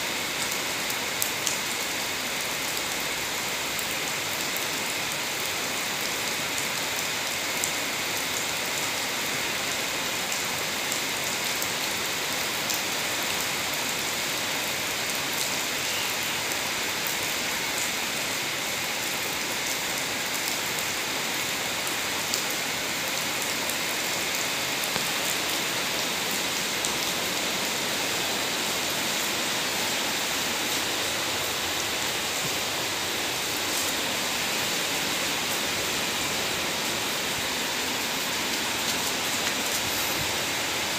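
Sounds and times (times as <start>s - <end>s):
rain on pavement and plants: 0.0s - 40.9s.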